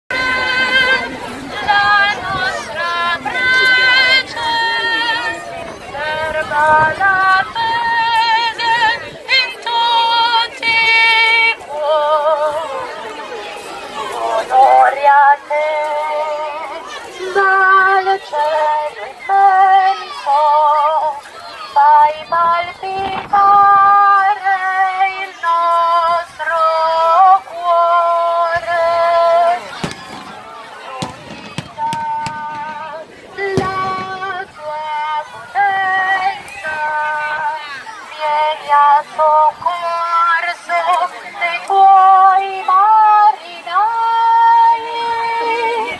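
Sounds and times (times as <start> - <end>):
woman singing through loudspeaker: 0.1 - 12.9, 14.2 - 30.4, 31.2 - 45.9.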